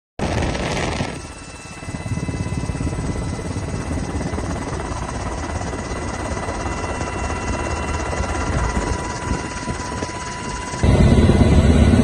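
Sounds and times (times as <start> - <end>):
helicopter rotor beating: 0.2 - 12.0
turbine whine: 0.2 - 12.0.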